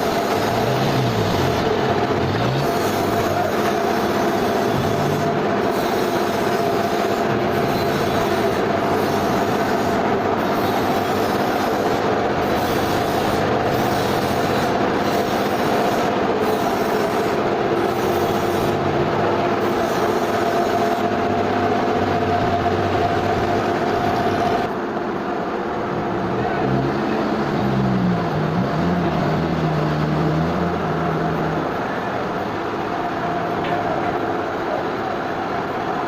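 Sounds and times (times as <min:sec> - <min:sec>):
sawmill machinery running: 0:00.0 - 0:36.0
steady mechanical whine: 0:00.0 - 0:36.0.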